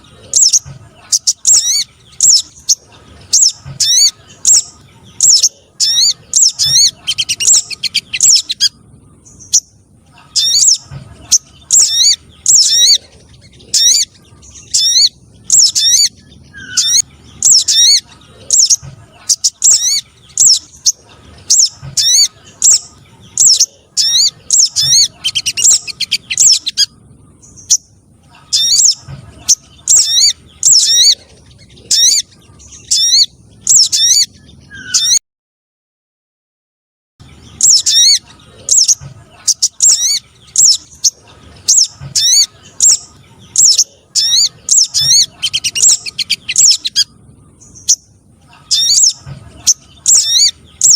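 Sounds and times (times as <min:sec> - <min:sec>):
high thin bird chirping: 0:00.0 - 0:35.2, 0:37.6 - 0:50.9.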